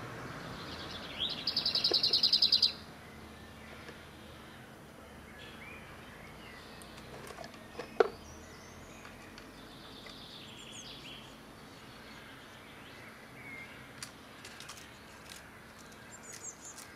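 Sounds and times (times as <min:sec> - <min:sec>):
birds singing: 0:00.0 - 0:16.9.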